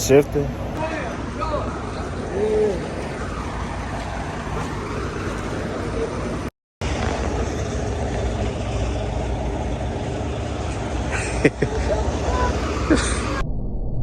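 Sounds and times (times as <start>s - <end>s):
vehicle engine rumbling: 0.0s - 13.4s.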